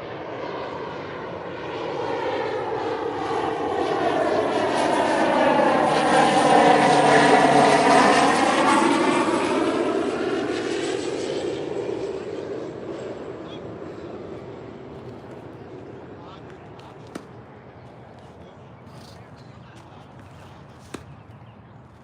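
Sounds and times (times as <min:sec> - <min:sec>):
airplane passing overhead: 0:00.0 - 0:22.0.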